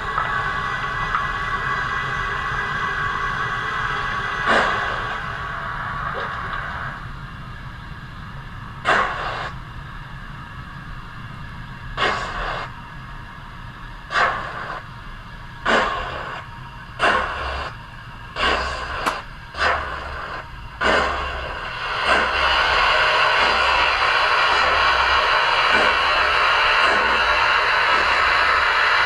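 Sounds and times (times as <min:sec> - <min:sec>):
low hum: 0:00.0 - 0:29.0
model steam locomotive chuffs: 0:00.0 - 0:29.0
steady steam hiss: 0:00.0 - 0:29.0.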